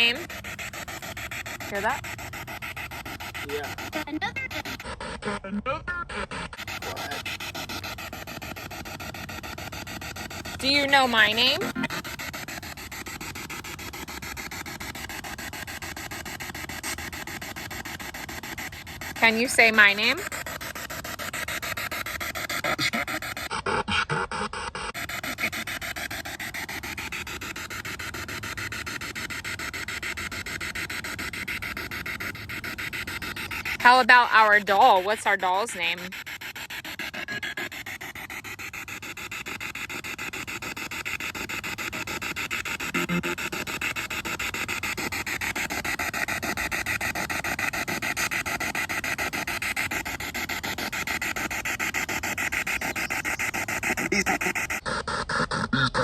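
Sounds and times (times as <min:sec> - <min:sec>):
pulsing radio static hiss: 0:00.0 - 0:56.0.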